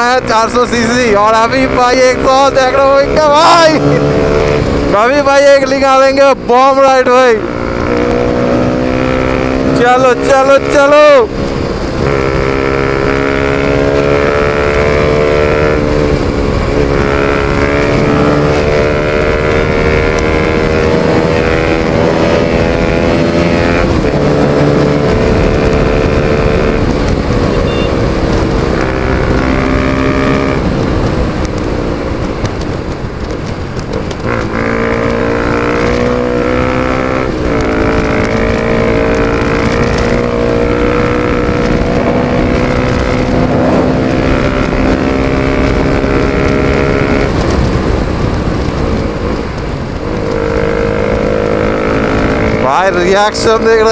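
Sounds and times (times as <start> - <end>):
motorcycle engine accelerating: 0.0 - 53.9
wind buffeting microphone: 0.0 - 53.9.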